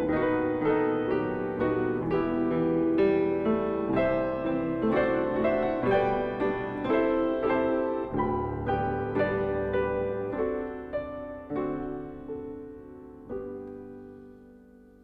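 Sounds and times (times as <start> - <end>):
piano playing: 0.0 - 15.0.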